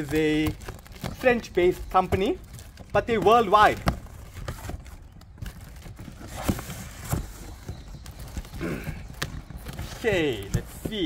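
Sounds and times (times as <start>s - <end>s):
cardboard box being rummaged: 0.0s - 11.0s.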